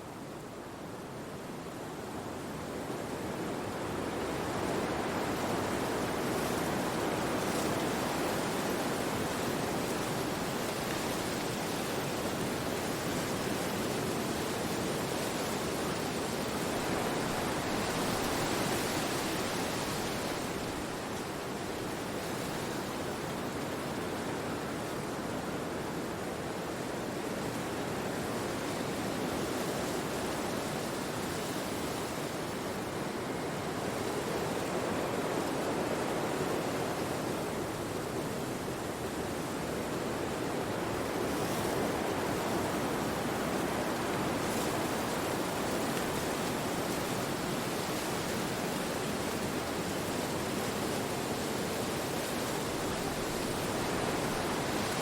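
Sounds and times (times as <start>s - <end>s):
wind rushing through trees: 0.0s - 55.0s.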